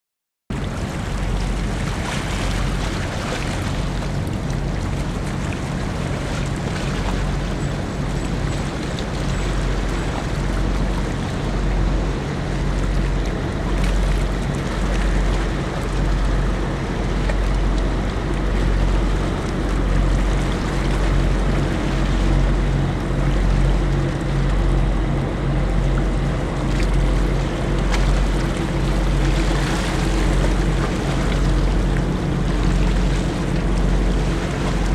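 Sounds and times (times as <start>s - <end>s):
ship engines droning: 0.5s - 34.9s
wind and water rushing: 0.5s - 34.9s.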